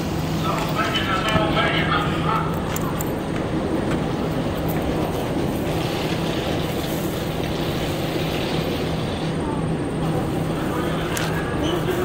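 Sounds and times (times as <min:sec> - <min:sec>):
continuous rumble: 0:00.0 - 0:12.0.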